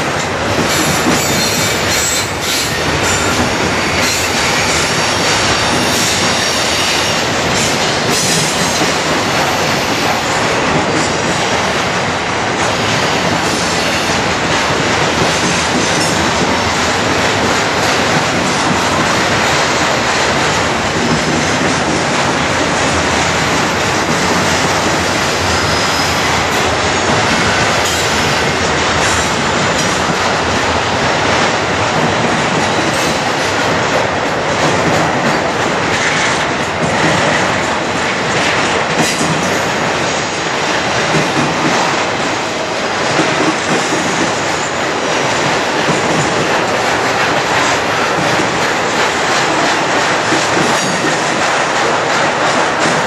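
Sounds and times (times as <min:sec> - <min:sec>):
clacks at rail joints: 0:00.0 - 0:53.0
train wheels rumbling on rail: 0:00.0 - 0:53.0.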